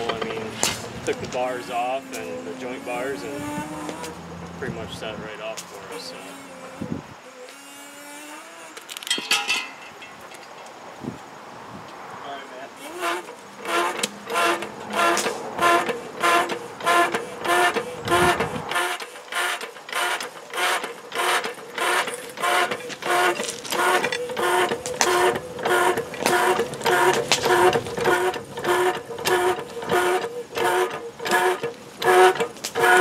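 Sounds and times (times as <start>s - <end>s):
hydraulic tool pulsing whine: 0.0s - 4.4s, 5.7s - 8.9s, 12.8s - 33.0s.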